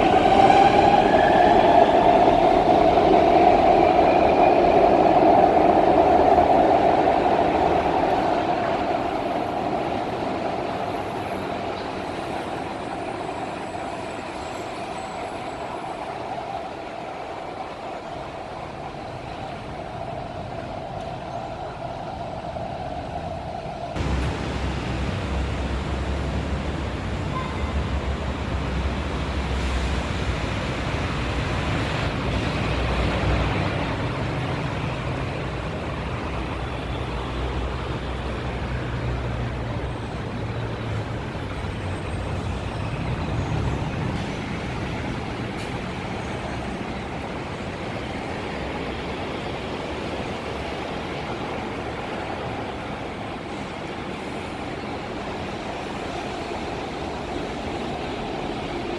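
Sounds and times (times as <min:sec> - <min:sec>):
electric train rumble and rail noise: 0:00.0 - 0:58.9.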